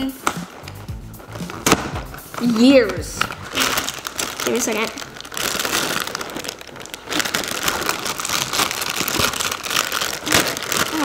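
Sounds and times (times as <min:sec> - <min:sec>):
plastic bag crinkling: 0:00.2 - 0:11.0.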